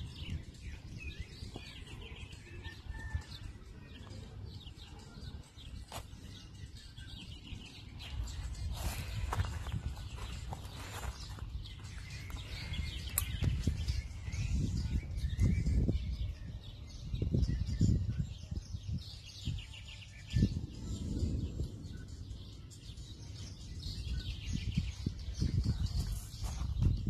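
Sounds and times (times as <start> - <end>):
small birds chirping: 0.0 - 27.0
wind gusts on microphone: 0.0 - 27.0.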